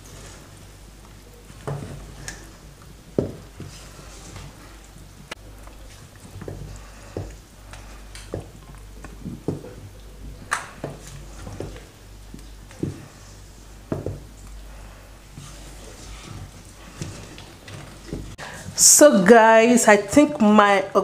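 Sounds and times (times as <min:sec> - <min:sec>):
spoon stirring thick soup: 0:00.0 - 0:18.7
low steady hum: 0:00.0 - 0:21.0.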